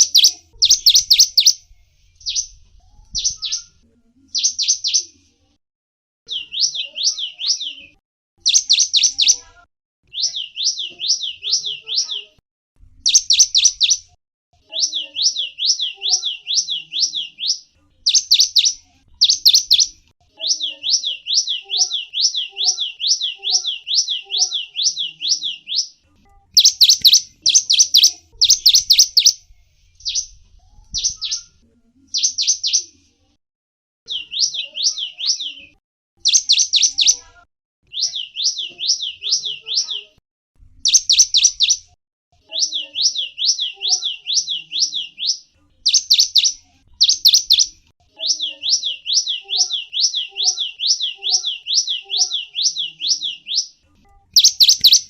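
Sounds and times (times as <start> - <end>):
small songbird chirping: 0.0 - 5.1, 6.3 - 12.3, 13.0 - 14.1, 14.7 - 32.9, 34.1 - 37.2, 40.8 - 41.8, 42.5 - 55.0.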